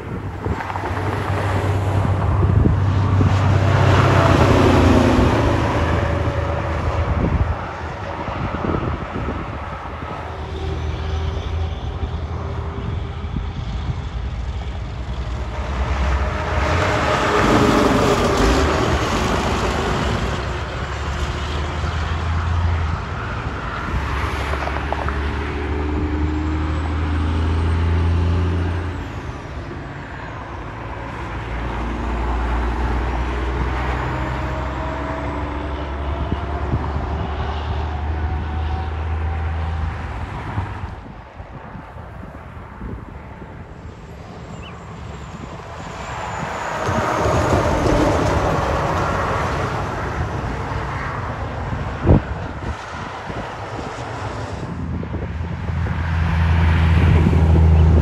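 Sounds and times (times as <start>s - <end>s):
cars and trucks passing: 0.0s - 58.0s
tanker truck passing: 0.0s - 58.0s.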